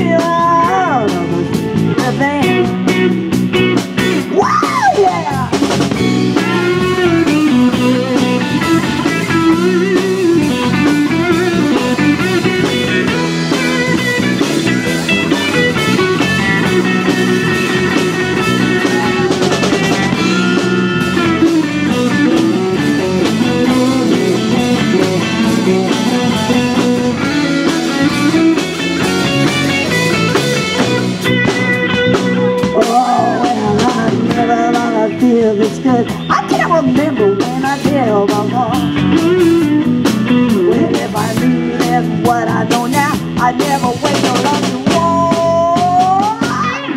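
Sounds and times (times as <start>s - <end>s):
bass guitar: 0.0s - 46.9s
drum kit: 0.0s - 46.9s
electric guitar lead line: 0.0s - 46.9s.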